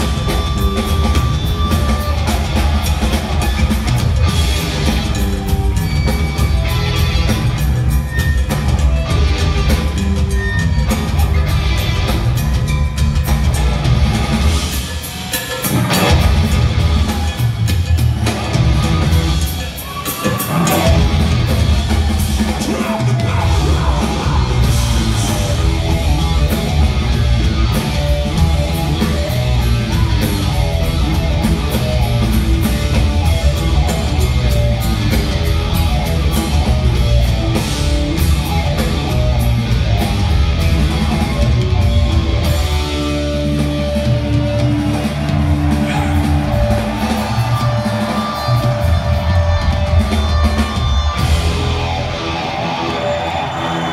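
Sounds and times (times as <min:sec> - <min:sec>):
bass guitar: 0:00.0 - 0:15.0, 0:15.7 - 0:19.8, 0:20.4 - 0:53.9
drum kit: 0:00.0 - 0:53.9
electric guitar: 0:00.0 - 0:53.9.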